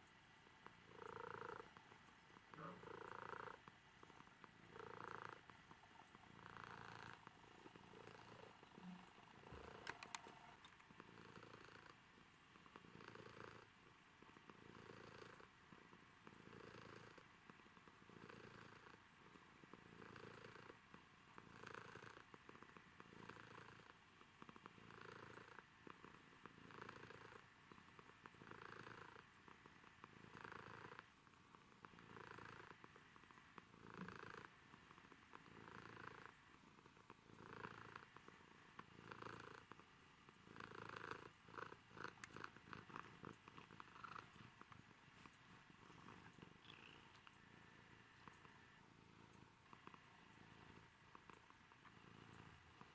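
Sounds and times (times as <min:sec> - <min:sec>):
cat purring faintly: 0:00.0 - 0:52.9.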